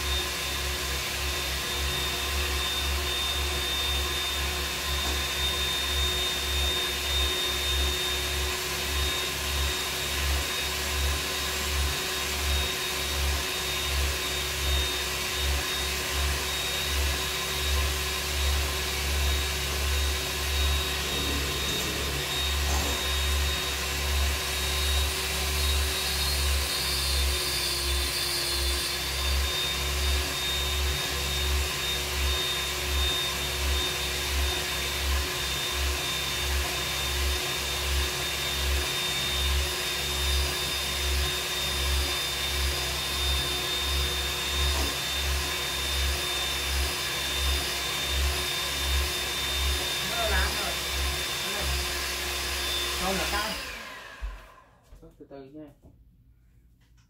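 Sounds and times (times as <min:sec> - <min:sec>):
electric motor whirring: 0:00.0 - 0:54.6.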